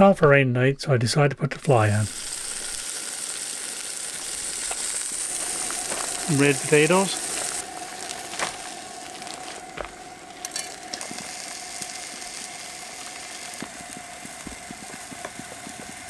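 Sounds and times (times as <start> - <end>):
camp stove burner hissing: 1.5 - 16.0
fish frying in a pan: 1.8 - 16.0.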